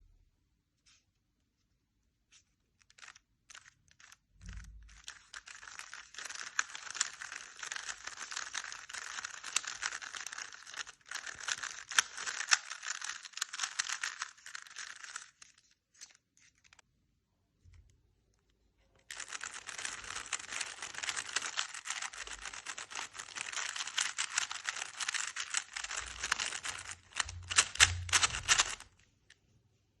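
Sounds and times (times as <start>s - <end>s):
plastic puzzle cube clicking: 2.8s - 16.8s, 19.1s - 29.0s.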